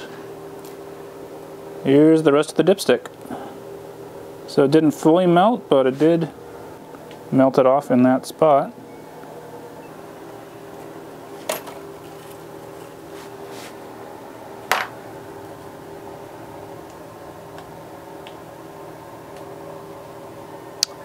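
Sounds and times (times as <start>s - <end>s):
background hum: 0.0s - 21.0s.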